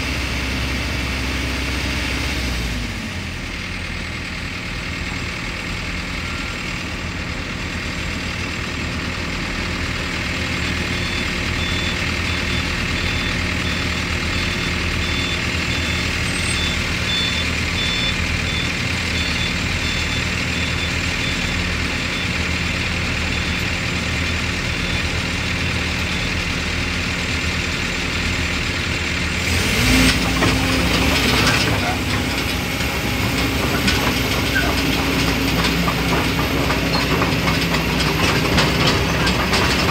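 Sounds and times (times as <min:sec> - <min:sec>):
excavator diesel engine revving: 0:00.0 - 0:39.9.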